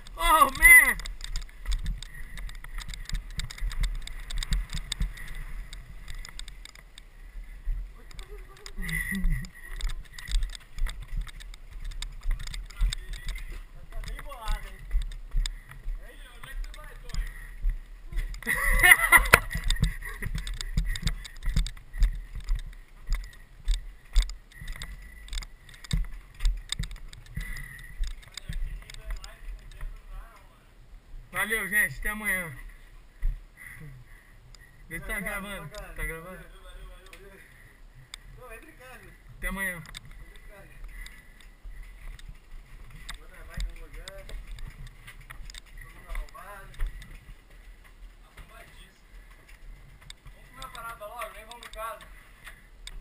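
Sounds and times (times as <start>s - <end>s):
mountain bike rattling: 0.0s - 30.6s, 31.2s - 53.0s.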